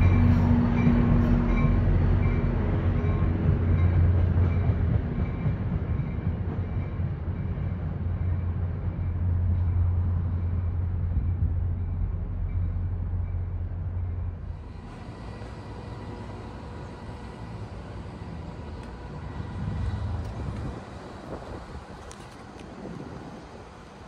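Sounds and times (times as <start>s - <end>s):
diesel locomotive engine drone: 0.0s - 24.0s
rail rumble: 0.0s - 24.0s.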